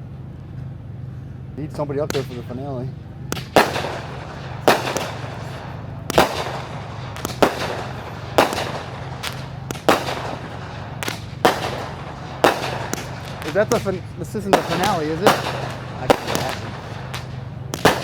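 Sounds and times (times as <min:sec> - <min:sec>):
fireworks bursting with booms: 0:01.9 - 0:18.0.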